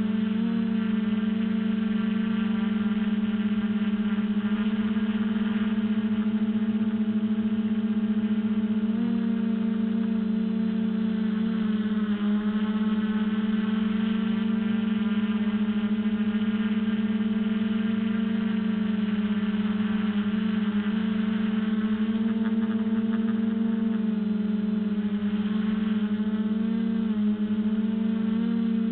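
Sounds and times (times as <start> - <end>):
drone propellers humming: 0.0 - 28.9.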